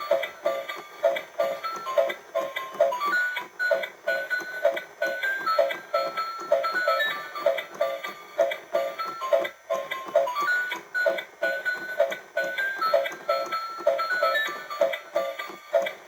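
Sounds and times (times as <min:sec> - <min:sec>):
electronic toy melody: 0:00.0 - 0:16.0.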